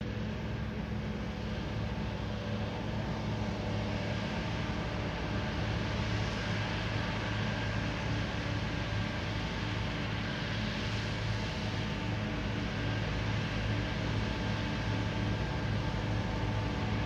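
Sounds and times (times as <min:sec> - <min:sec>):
diesel machinery engine drone: 0:00.0 - 0:17.0.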